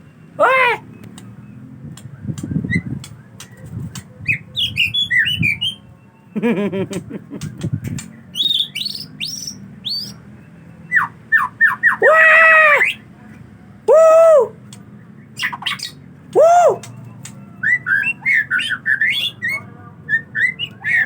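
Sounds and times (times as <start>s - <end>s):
bird singing: 0.0s - 13.1s, 13.9s - 21.0s.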